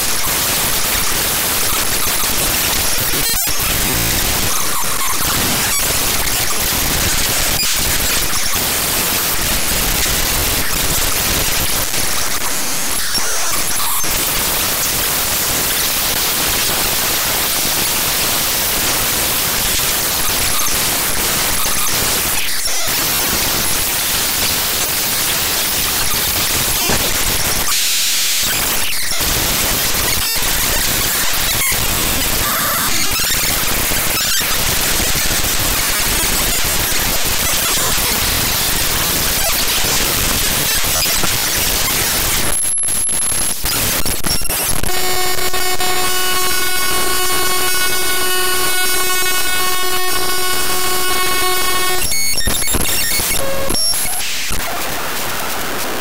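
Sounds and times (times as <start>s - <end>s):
harsh static: 0.0s - 56.0s.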